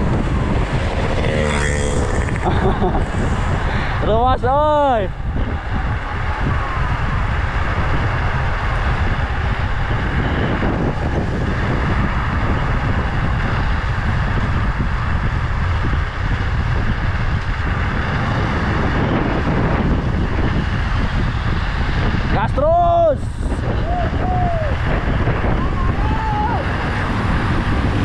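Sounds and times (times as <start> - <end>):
vehicle running noise: 0.0 - 28.0
wind rushing over microphone: 0.0 - 28.0.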